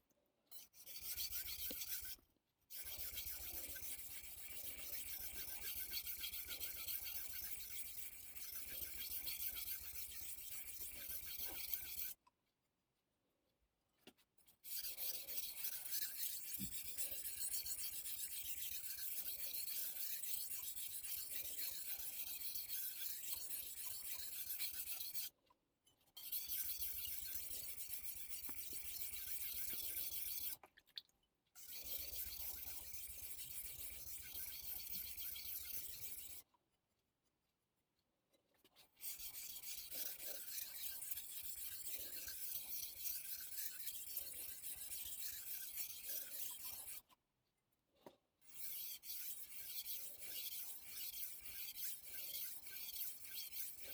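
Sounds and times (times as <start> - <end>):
knife scraping on whetstone: 0.5 - 12.2, 14.6 - 25.3, 26.2 - 30.6, 31.6 - 36.4, 39.0 - 47.0, 48.5 - 53.9.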